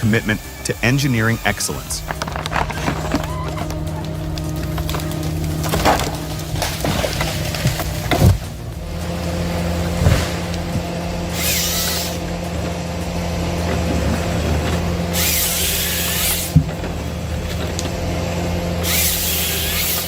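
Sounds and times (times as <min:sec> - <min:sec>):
diesel engine running: 0:00.0 - 0:20.0
saw cutting through log: 0:00.0 - 0:20.0.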